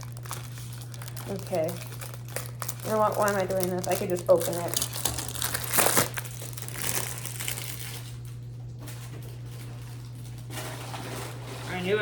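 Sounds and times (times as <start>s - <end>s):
cardboard packaging crinkling: 0.0s - 12.0s.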